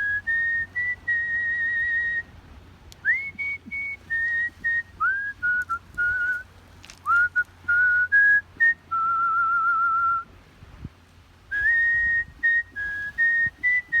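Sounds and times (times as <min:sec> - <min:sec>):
person whistling a melody: 0:00.0 - 0:02.3, 0:03.0 - 0:06.4, 0:07.1 - 0:10.3, 0:11.5 - 0:14.0.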